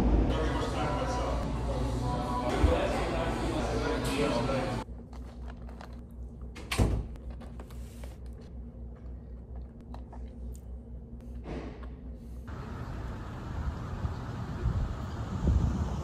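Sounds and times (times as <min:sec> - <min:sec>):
room hum: 0:00.0 - 0:15.4.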